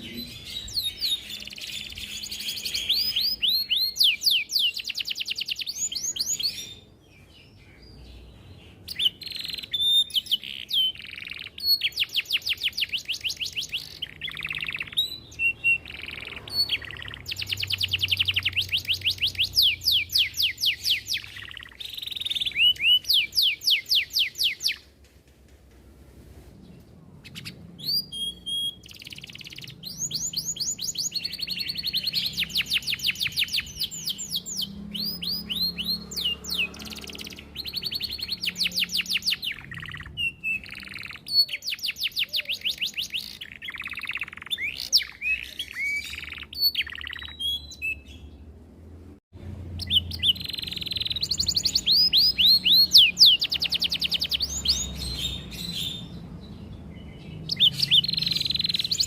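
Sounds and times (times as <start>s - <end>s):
canary singing trills: 0.0s - 24.9s, 27.1s - 48.6s, 49.4s - 59.0s.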